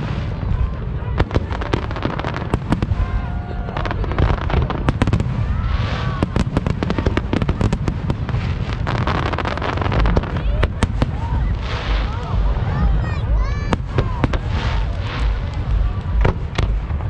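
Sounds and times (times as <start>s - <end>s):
fireworks bangs and crackling: 0.0s - 17.0s
low rumble: 0.0s - 17.0s.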